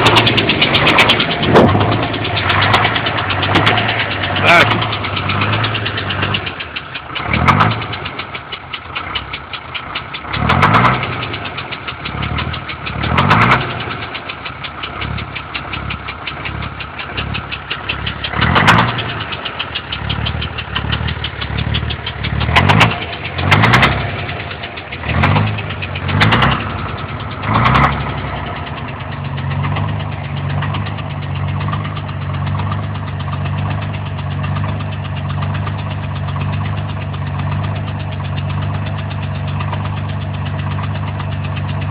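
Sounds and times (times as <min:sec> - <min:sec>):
diesel engine clattering: 0:00.0 - 0:41.9.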